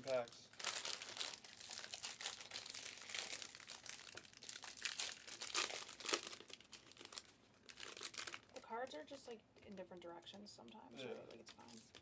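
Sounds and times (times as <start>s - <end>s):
wrappers crackling and ripping: 0.0s - 10.3s, 11.0s - 12.0s.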